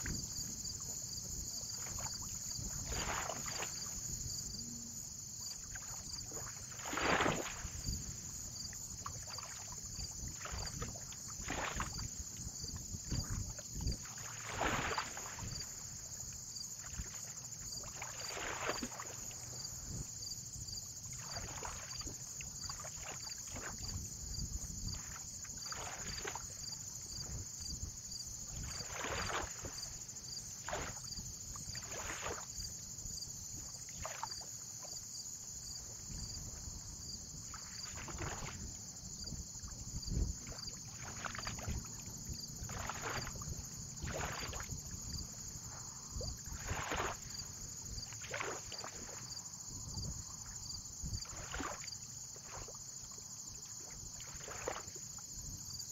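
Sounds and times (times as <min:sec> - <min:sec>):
small waves lapping: 0:00.0 - 0:55.8.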